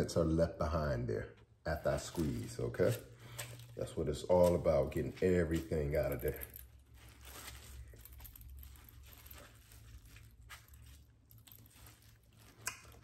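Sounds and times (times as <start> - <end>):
mesh bag crinkling and rustling: 1.9 - 13.0.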